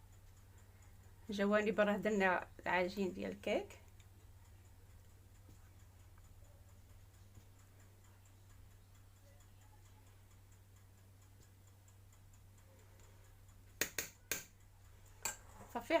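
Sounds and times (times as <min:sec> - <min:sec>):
faint ticking: 0:00.0 - 0:16.0.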